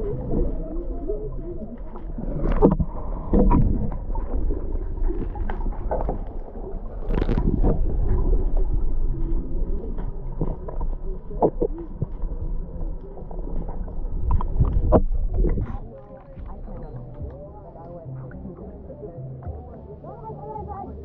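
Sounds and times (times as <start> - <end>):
sea water sloshing: 0.0 - 18.6
constant low rumble: 0.0 - 21.0.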